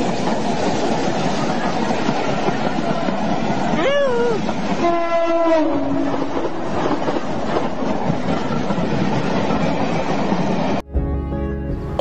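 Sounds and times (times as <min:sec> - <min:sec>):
passenger train rushing past: 0:00.0 - 0:10.8.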